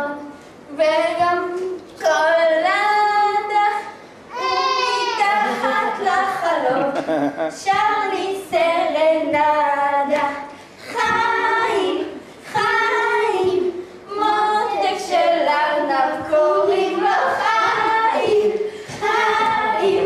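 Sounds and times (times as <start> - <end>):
girls singing unaccompanied: 0.0 - 20.0.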